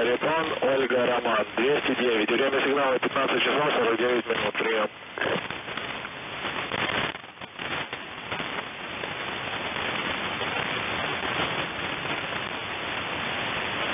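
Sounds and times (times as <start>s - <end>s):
radio static hiss and crackle: 0.0s - 13.9s.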